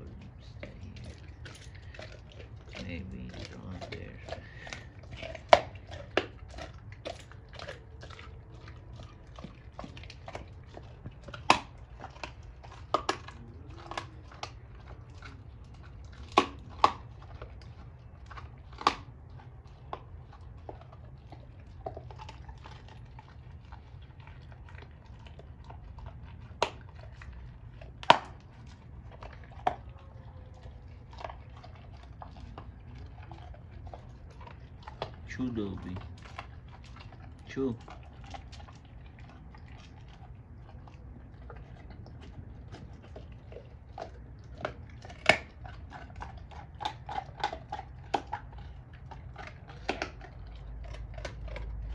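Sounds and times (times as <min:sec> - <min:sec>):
dog crunching a bone: 0:00.0 - 0:51.9
faint low hum: 0:00.0 - 0:51.9.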